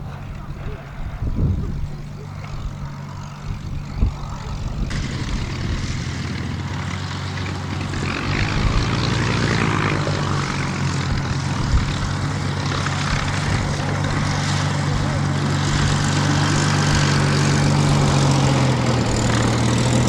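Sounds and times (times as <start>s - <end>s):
propeller plane piston engine: 0.0s - 20.0s.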